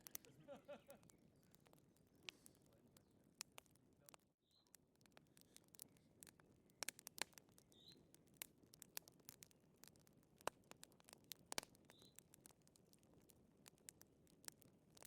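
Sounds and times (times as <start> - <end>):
fire crackling faintly: 0.0 - 15.0.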